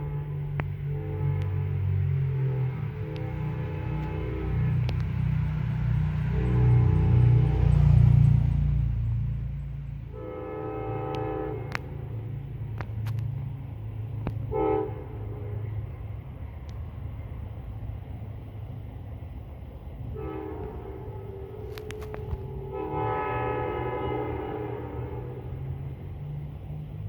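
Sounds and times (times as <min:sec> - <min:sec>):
distant locomotive air horn: 0:00.0 - 0:09.3, 0:10.0 - 0:17.3, 0:20.0 - 0:27.0.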